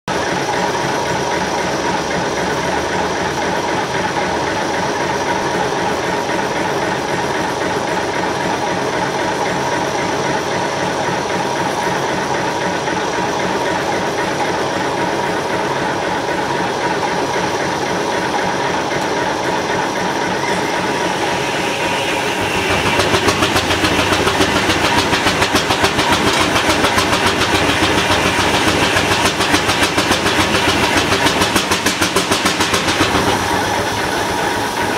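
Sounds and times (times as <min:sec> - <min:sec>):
sawmill machinery running: 0:00.1 - 0:34.9.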